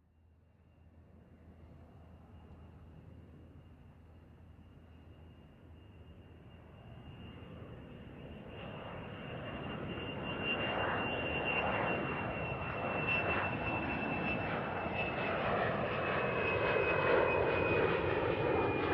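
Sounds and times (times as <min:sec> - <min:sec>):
airplane engine landing: 0:01.7 - 0:18.9.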